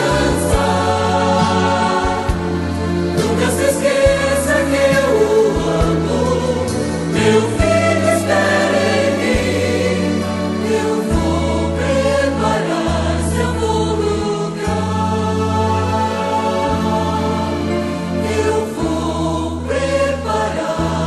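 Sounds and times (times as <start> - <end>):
choir singing gospel: 0.0 - 21.0.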